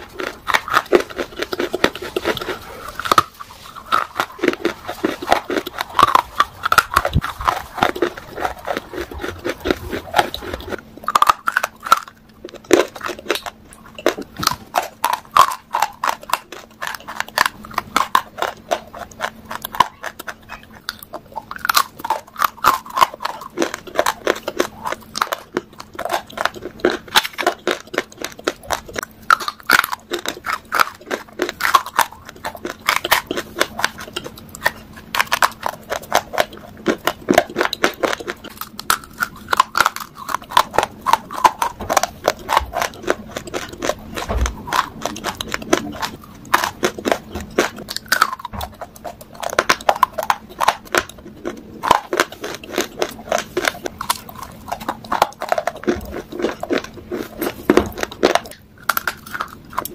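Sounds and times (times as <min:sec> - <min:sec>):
biting and chewing brittle clay: 0:00.0 - 0:59.9.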